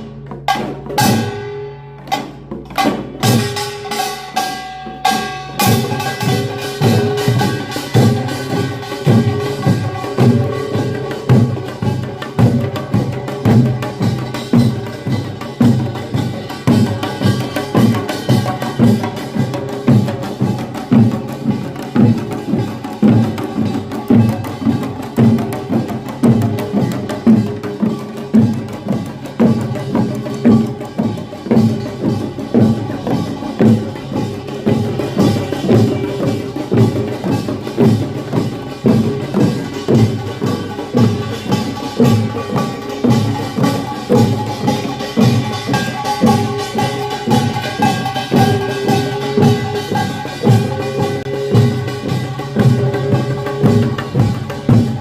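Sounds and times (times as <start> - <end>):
drums beating: 0.0 - 55.0
metal gongs ringing: 1.0 - 20.6, 29.6 - 54.8.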